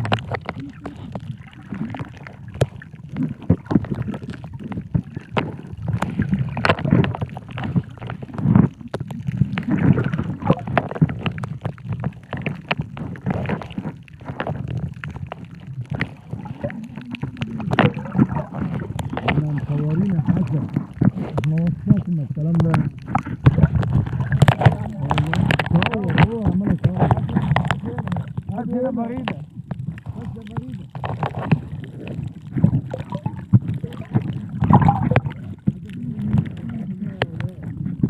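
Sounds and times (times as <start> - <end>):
muffled water sloshing and gurgling: 0.0 - 38.0
sharp crackling clicks: 0.0 - 38.0.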